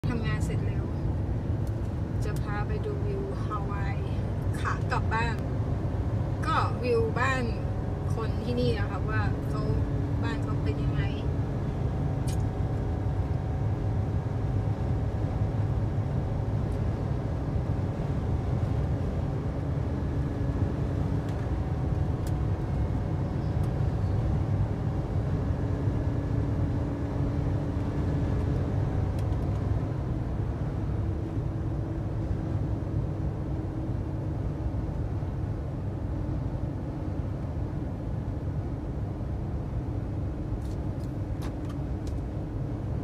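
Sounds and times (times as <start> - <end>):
engine and tyre rumble: 0.0 - 43.0.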